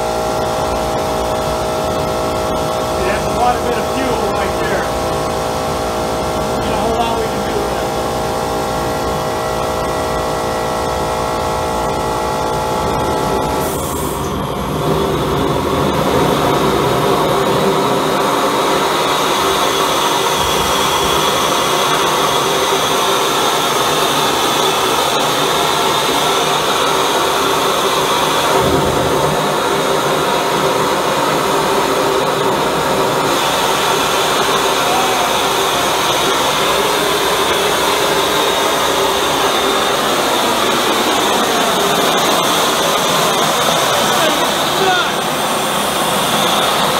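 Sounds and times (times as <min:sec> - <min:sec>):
propane burner rushing: 0:00.0 - 0:46.9
steady hum: 0:00.0 - 0:46.9.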